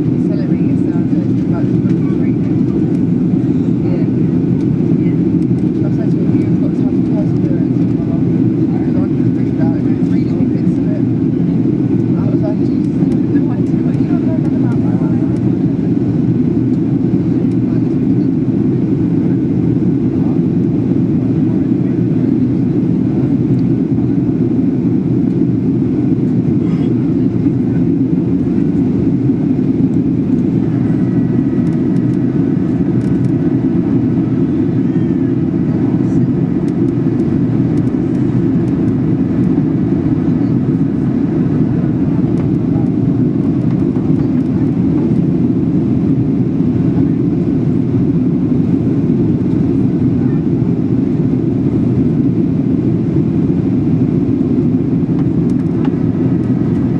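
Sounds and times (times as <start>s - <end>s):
jet engine roar in cabin: 0.0s - 56.9s.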